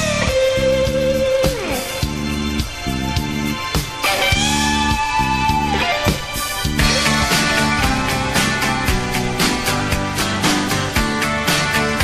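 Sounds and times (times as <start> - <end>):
guitar: 0.0 - 12.0
rock music: 0.0 - 12.0
steady drum beat: 1.5 - 12.0.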